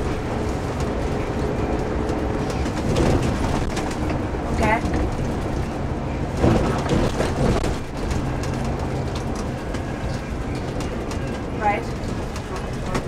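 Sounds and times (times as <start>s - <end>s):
low engine hum: 0.0s - 13.0s
tyre and road rumble: 0.0s - 13.0s.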